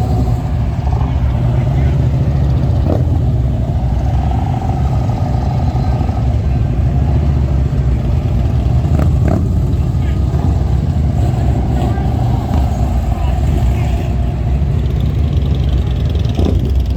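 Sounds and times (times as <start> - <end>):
traffic rumble: 0.0 - 16.9.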